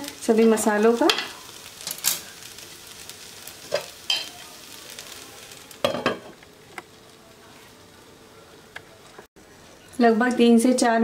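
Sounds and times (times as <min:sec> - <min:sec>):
rice sizzling in a metal pan: 0:00.0 - 0:11.0.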